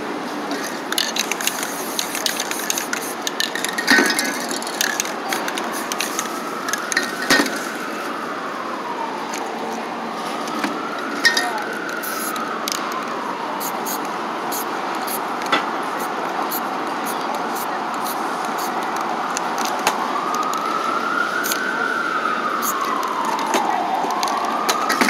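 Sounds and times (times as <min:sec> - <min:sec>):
street noise: 0:00.0 - 0:25.0.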